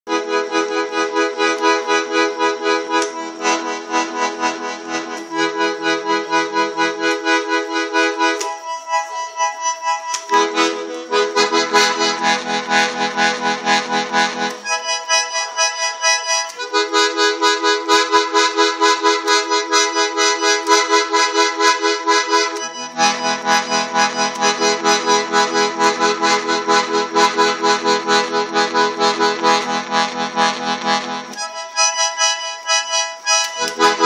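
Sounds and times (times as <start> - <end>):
accordion playing chords: 0.1 - 34.0.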